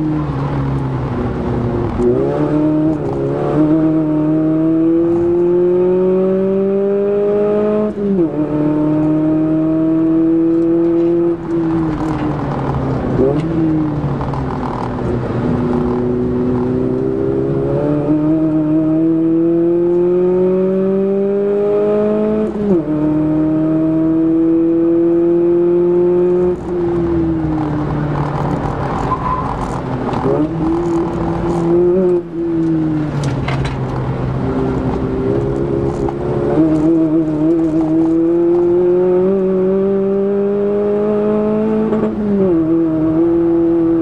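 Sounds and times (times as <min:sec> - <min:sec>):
car engine revving: 0:00.0 - 0:44.0
tyre and road noise: 0:00.0 - 0:44.0.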